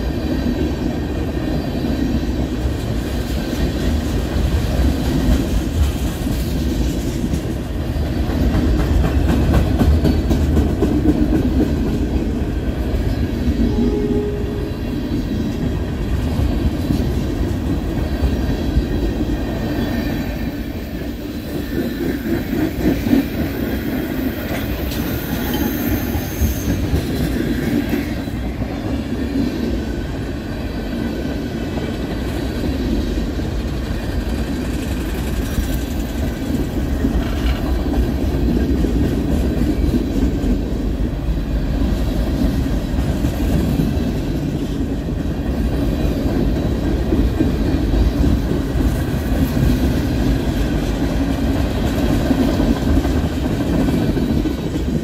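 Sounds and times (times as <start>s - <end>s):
freight train rumbling and clattering: 0.0s - 55.0s.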